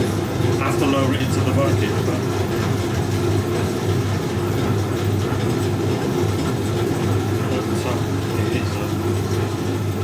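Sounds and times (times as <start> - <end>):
washing machine drain pump humming: 0.0 - 10.0.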